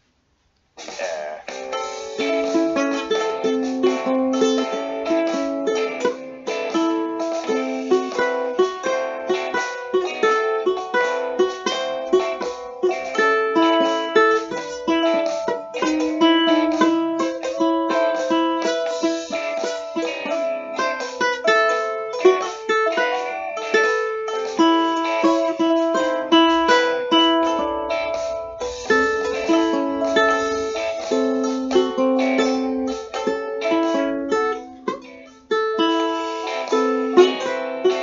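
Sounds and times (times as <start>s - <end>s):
ukulele boogie tune: 0.8s - 38.0s.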